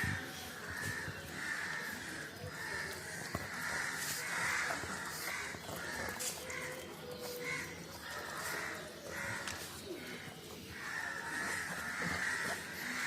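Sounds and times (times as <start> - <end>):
crows cawing: 0.7 - 13.0.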